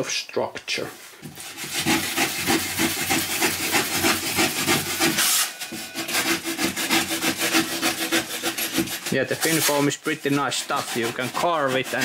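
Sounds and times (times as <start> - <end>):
knife sawing through foam board: 1.2 - 12.0.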